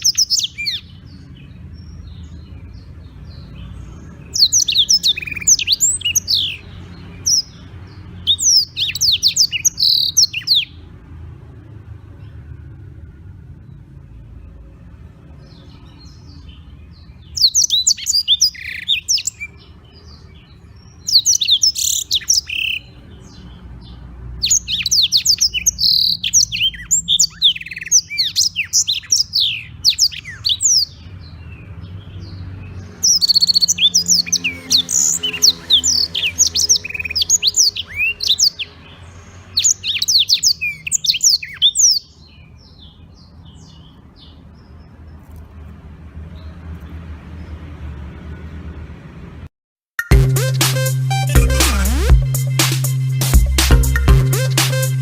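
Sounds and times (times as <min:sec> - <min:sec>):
canary twittering song: 0:00.0 - 0:11.0, 0:15.3 - 0:45.4, 0:50.0 - 0:55.0.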